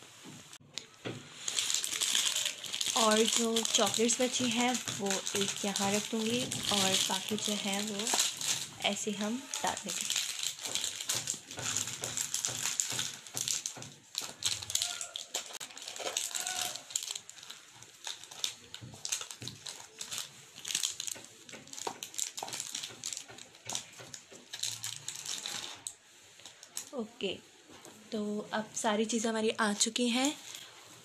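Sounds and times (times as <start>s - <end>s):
plastic wrappers crinkling: 0.6s - 27.1s, 28.7s - 31.0s.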